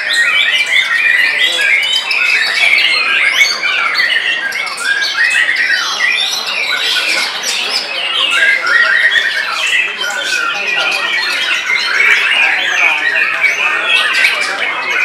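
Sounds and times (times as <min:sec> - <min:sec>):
bird singing whistles and chatter: 0:00.0 - 0:15.0
other birds singing: 0:00.0 - 0:15.0.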